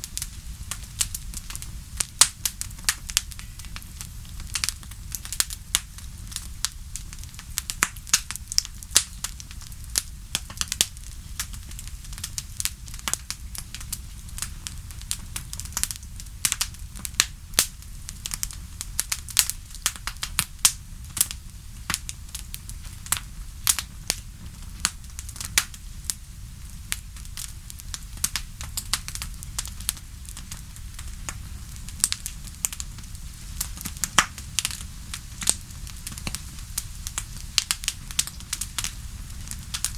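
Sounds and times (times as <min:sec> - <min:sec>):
burning wood popping and snapping: 0:00.0 - 0:39.9
low rumble of flames: 0:00.0 - 0:39.9.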